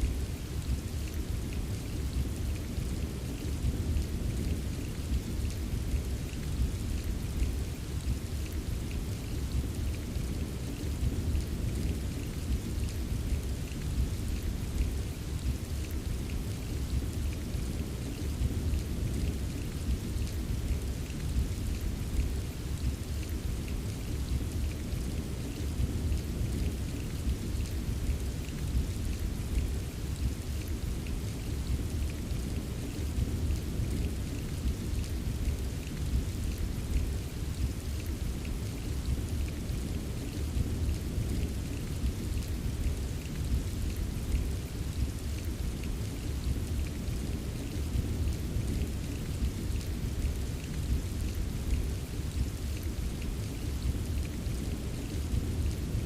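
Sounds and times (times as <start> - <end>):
pattering raindrops: 0.0 - 56.0
rainfall hiss: 0.0 - 56.0.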